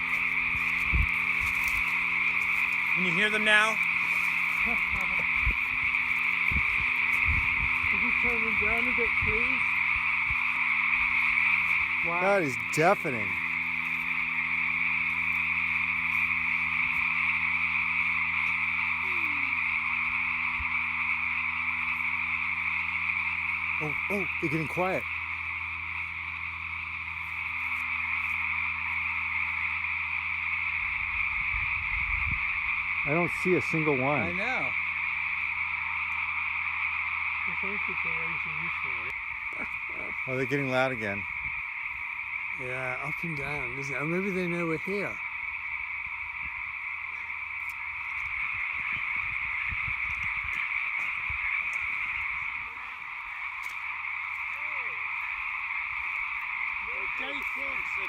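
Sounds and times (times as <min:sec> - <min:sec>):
frogs chorus: 0:00.0 - 0:58.0.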